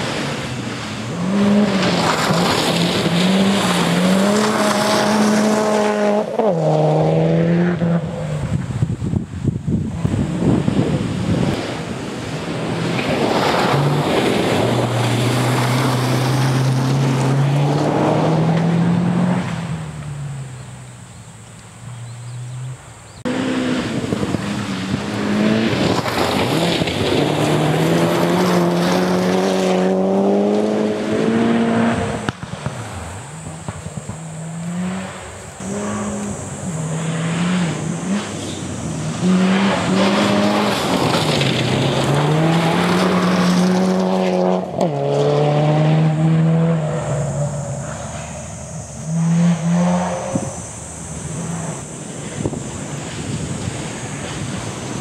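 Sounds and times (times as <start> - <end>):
rally car engine revving: 0.0 - 8.8, 9.9 - 20.7, 21.9 - 55.0.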